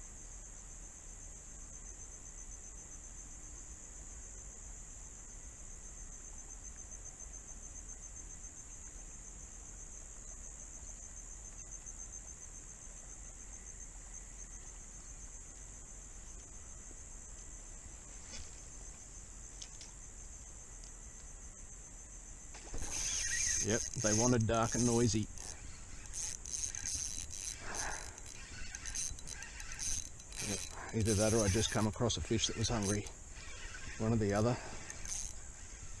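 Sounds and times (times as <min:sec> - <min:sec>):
insects trilling: 0:00.0 - 0:36.0
faint ticks: 0:06.1 - 0:21.6, 0:22.5 - 0:36.0.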